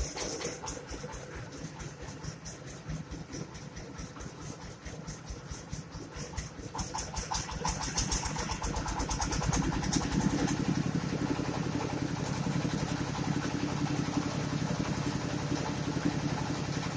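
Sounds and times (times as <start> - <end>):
rice mill engine running: 0.0 - 16.9.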